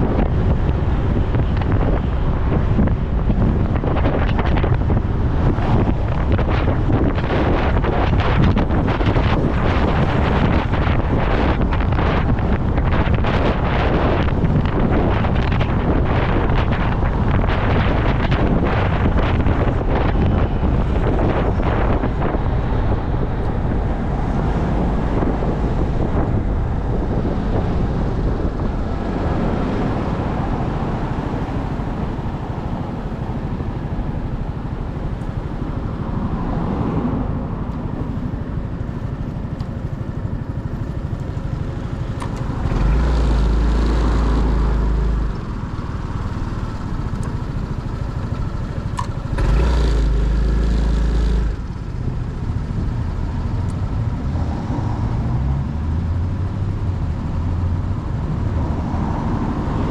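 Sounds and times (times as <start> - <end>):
motorcycle engine running: 0.0 - 54.3
road traffic: 0.0 - 59.9
wind noise on microphone: 0.0 - 59.9.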